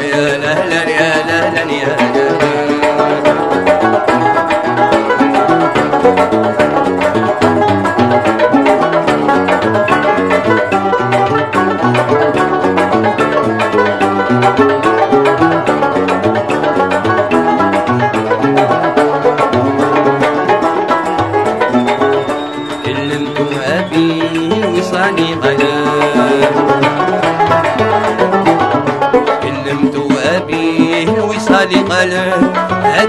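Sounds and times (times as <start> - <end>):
driving plucked beat: 0.0 - 33.0
fast plucked string melody: 0.0 - 33.0.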